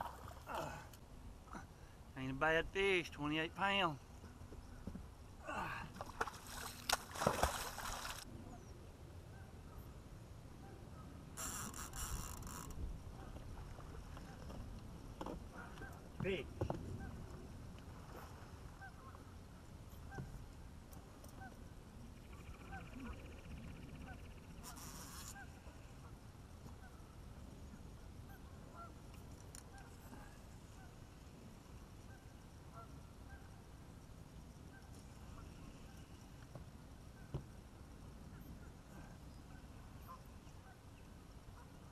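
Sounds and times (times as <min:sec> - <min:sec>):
water around a boat: 0:00.0 - 0:41.9
wind: 0:00.0 - 0:41.9.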